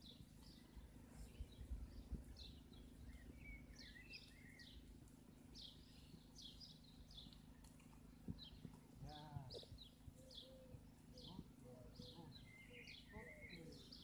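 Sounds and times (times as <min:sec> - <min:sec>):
low steady hum: 0:00.0 - 0:14.0
small birds chirping: 0:00.0 - 0:14.0.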